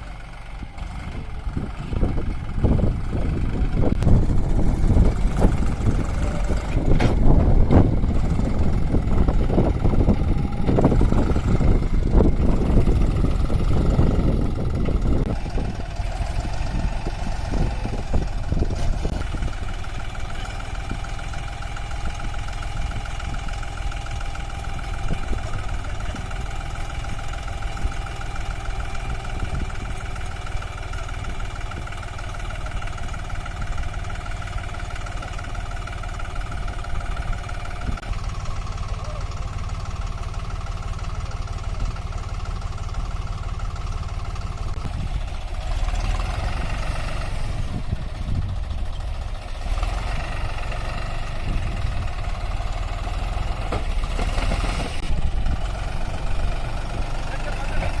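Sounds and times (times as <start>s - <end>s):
heavy diesel engine knocking: 0.0s - 58.0s.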